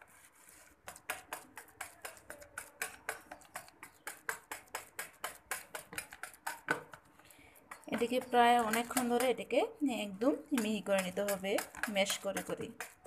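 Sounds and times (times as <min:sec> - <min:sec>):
wire whisk beating cream: 0:00.5 - 0:13.0.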